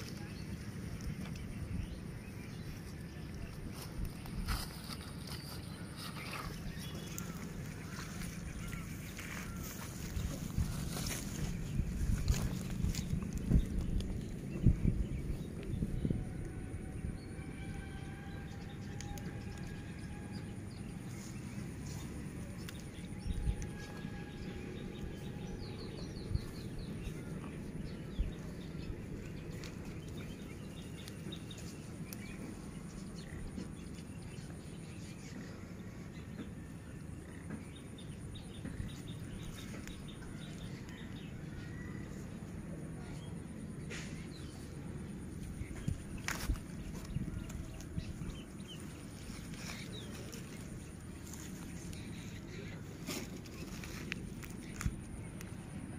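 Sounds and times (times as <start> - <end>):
low background rumble: 0.0 - 55.9.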